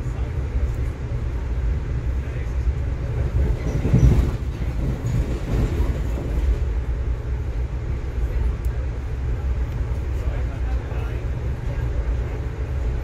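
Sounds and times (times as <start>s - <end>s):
freight train rumbling over rails: 0.0s - 13.0s.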